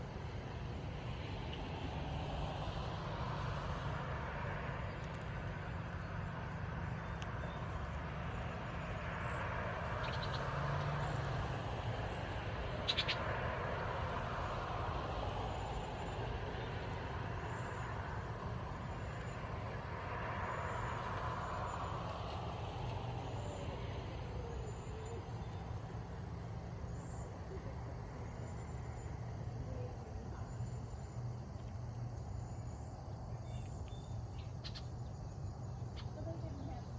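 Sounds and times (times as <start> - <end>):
distant road traffic: 0.0 - 36.9.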